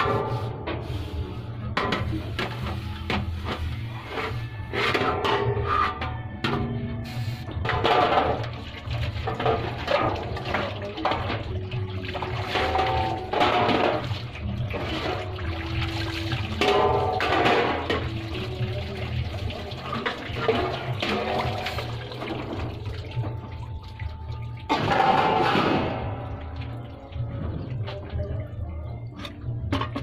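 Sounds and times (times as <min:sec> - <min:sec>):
water sloshing in metal basin: 0:00.0 - 0:06.7, 0:07.5 - 0:30.0.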